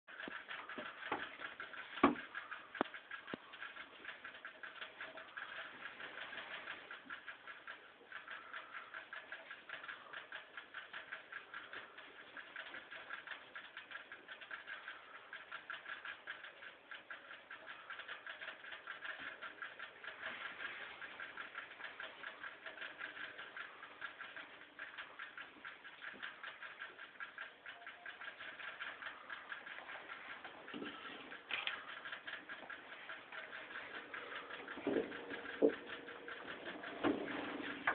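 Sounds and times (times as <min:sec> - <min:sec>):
rabbit licking water: 0:00.1 - 0:37.9.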